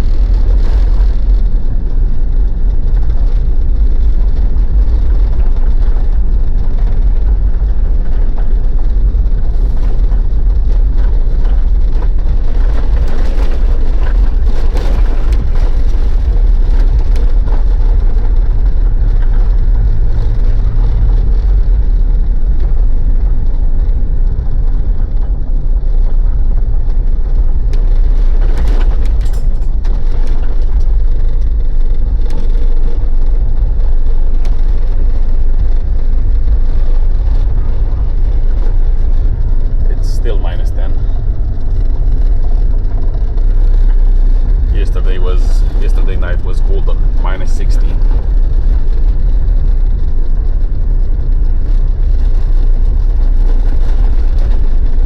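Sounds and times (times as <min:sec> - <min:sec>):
diesel engine running: 0:00.0 - 0:55.0
tyre and road noise: 0:00.0 - 0:55.0.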